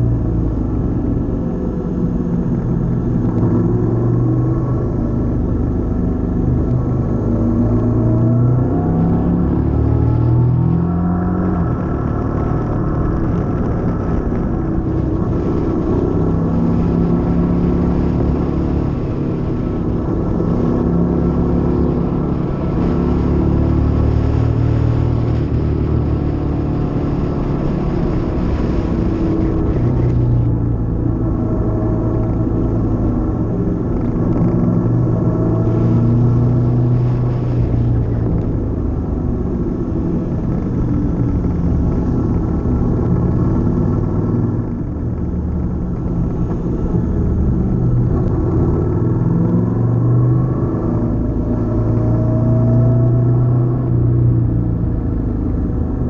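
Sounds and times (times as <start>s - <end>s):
rushing wind and road noise: 0.0s - 56.0s.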